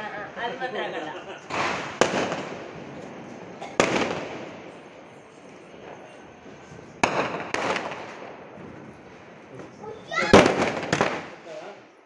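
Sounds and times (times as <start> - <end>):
fireworks crackle: 1.3 - 12.0
fireworks bangs: 1.4 - 12.0.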